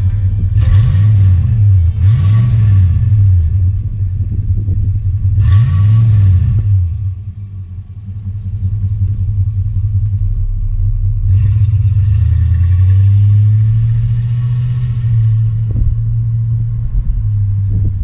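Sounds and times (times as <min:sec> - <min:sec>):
car engine exhaust drone: 0:00.0 - 0:18.0.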